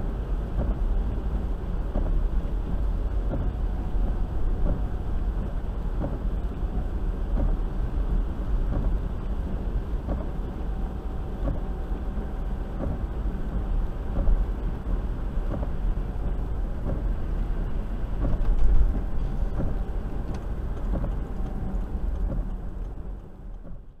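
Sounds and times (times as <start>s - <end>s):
engine rumble inside car: 0.0s - 24.0s
windscreen wipers sweeping: 0.0s - 24.0s.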